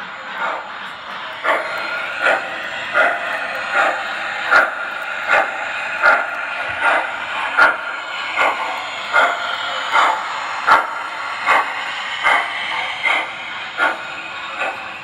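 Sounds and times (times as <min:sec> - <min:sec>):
model steam locomotive chuffing: 0:00.0 - 0:15.0
train running on track: 0:00.0 - 0:15.0.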